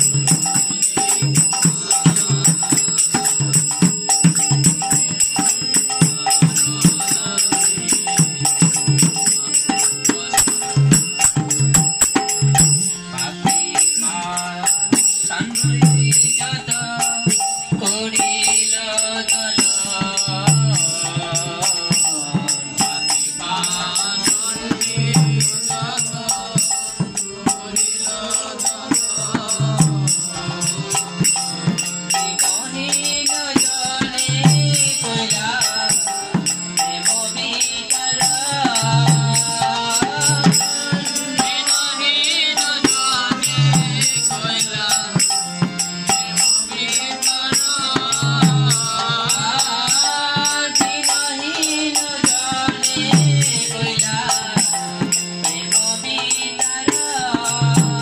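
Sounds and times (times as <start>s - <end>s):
hand cymbals chiming: 0.0s - 58.0s
man singing: 0.0s - 58.0s.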